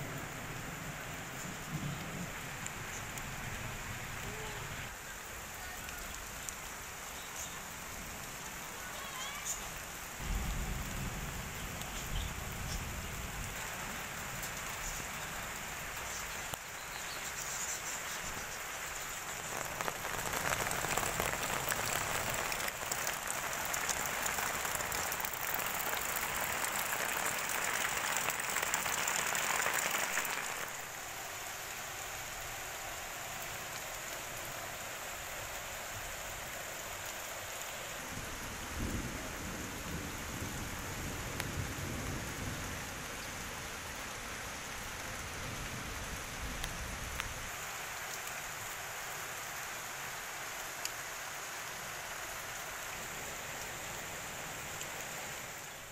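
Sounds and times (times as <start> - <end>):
rain pattering on leaves: 0.0 - 55.9.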